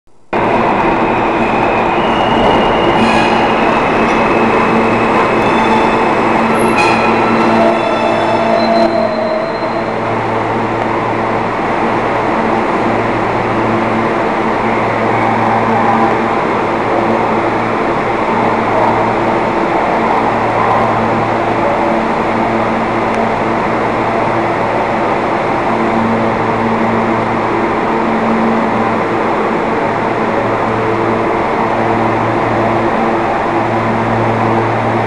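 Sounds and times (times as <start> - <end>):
train wheels rumbling on rail: 0.3 - 35.0.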